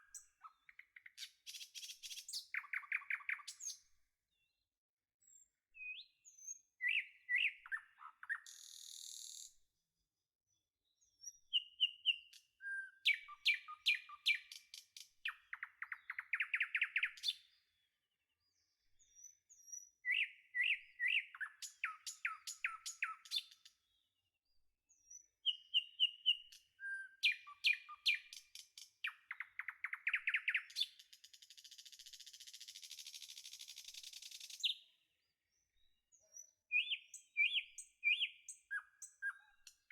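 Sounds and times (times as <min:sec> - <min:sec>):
songbird chirps and trills: 0:00.0 - 0:04.6, 0:05.2 - 0:09.6, 0:10.8 - 0:17.8, 0:18.4 - 0:24.1, 0:24.9 - 0:39.9.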